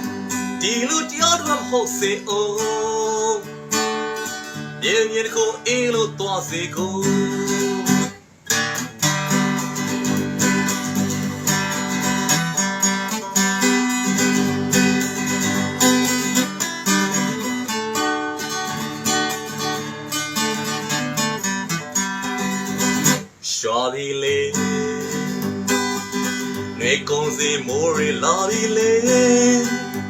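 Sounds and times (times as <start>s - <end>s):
acoustic guitar strummed and picked: 0.0s - 30.0s.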